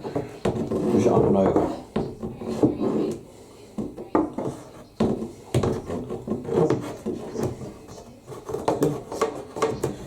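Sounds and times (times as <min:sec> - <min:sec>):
rod scraping inside dryer: 0:00.0 - 0:03.6, 0:04.3 - 0:10.0.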